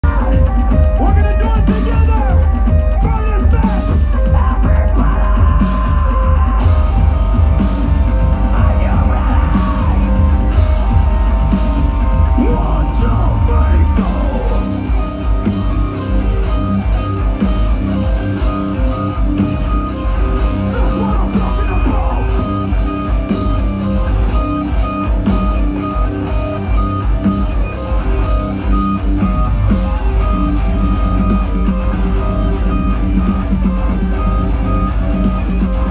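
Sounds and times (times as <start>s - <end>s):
metal band playing live: 0.0s - 35.9s.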